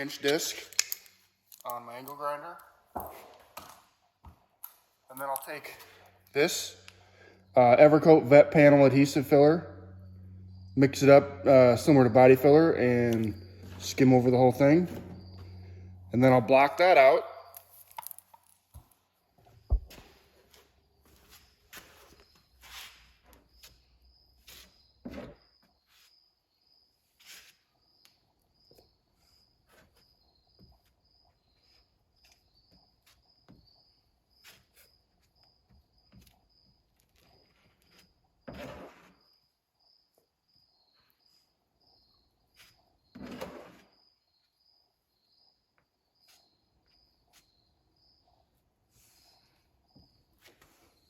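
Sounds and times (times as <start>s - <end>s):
insect chirping: 4.6s - 51.0s.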